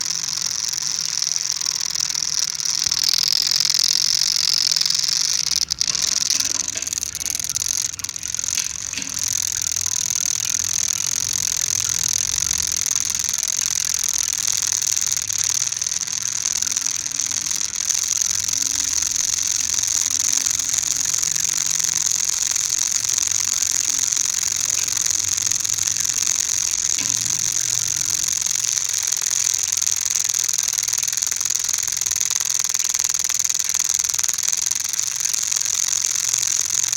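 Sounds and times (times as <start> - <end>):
mechanical grinding: 0.0 - 36.9
steady high hiss: 0.0 - 36.9.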